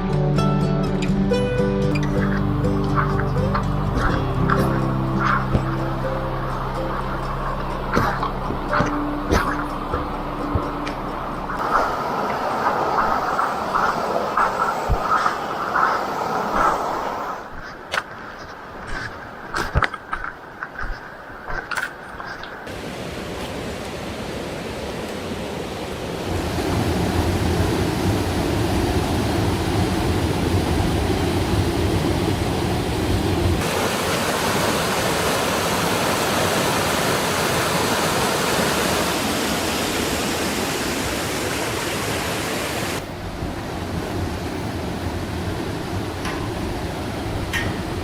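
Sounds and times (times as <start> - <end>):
stream and waterfall rushing: 2.0 - 48.0.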